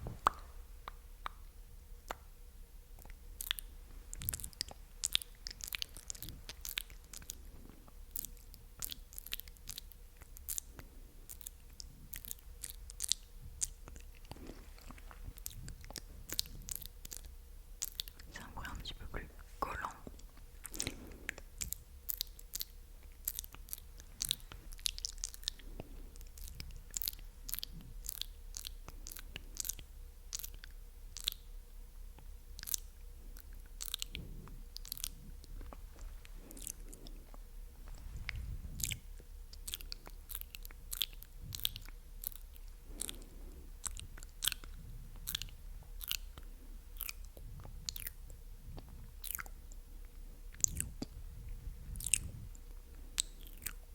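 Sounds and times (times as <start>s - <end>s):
wet mouth clicks and smacks: 0.0s - 2.3s, 2.9s - 31.5s, 32.2s - 53.9s.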